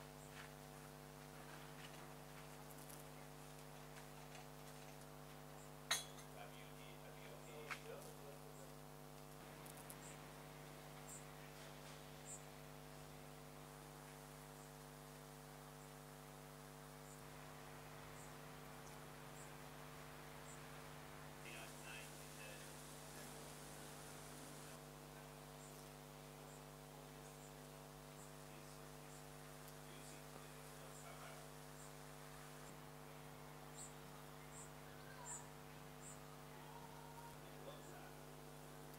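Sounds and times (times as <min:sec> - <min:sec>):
faint electrical hum: 0:00.0 - 0:38.9.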